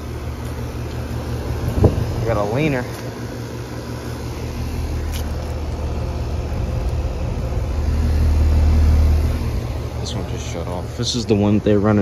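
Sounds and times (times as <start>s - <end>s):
heat pump compressor and fan hum: 0.0s - 12.0s.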